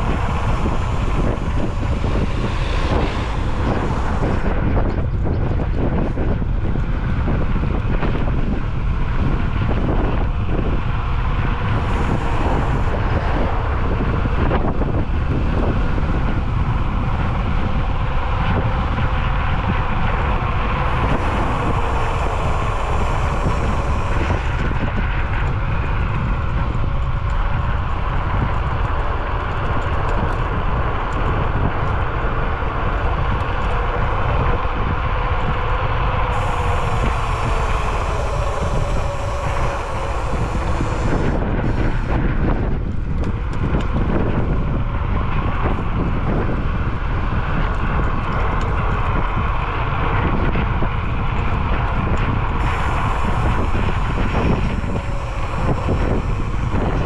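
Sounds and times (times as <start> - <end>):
electric scooter motor whine: 0.0 - 57.0
wind buffeting microphone: 0.0 - 57.0.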